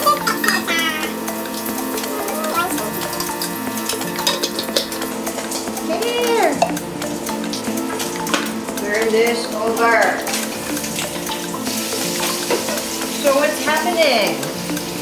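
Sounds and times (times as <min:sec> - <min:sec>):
utensil clinking against dish: 0:00.0 - 0:14.5
stove sizzling hiss: 0:00.0 - 0:15.0.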